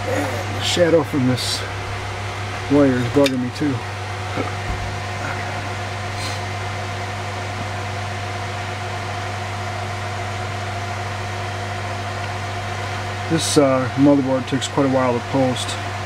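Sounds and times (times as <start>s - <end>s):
hard drives spinning: 0.0s - 16.0s
server fans humming and whirring: 0.0s - 16.0s.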